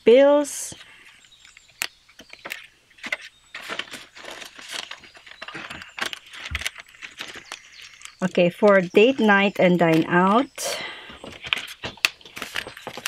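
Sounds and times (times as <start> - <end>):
banknotes rustling and crinkling: 0.7 - 13.0.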